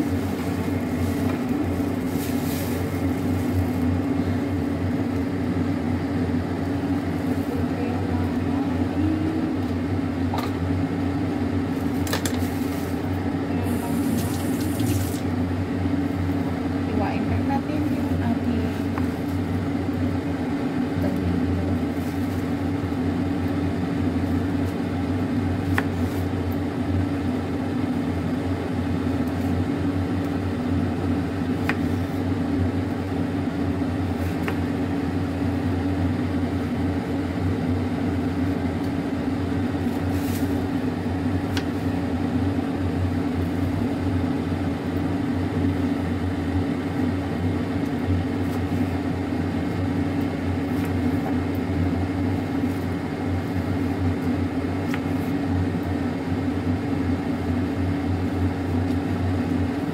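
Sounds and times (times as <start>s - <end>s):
kitchen appliance humming: 0.0s - 59.9s.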